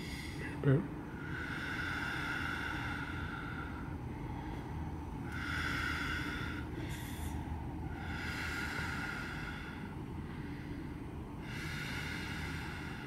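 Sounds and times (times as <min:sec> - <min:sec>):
woman breathing deeply: 0:00.0 - 0:13.0
sharp intake of breath: 0:01.1 - 0:13.0.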